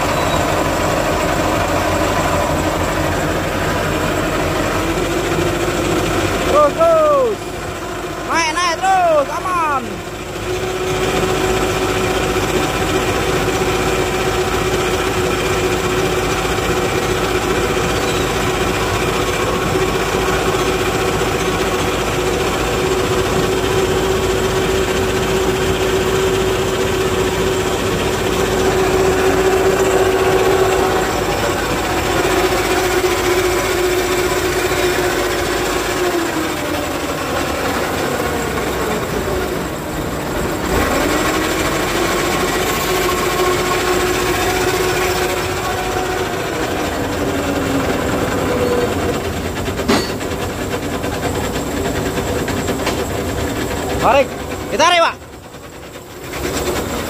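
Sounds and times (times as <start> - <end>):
hydraulic whine: 0.0 - 8.4, 9.1 - 57.0
diesel engine at raised revs: 0.0 - 57.0.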